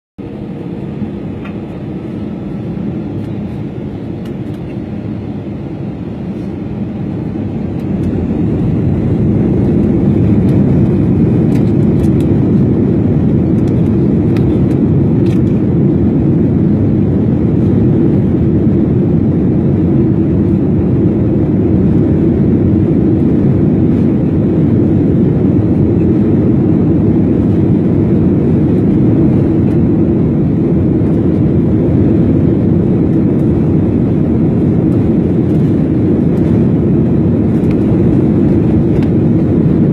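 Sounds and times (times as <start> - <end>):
jet engine roar in cabin: 0.2 - 39.9.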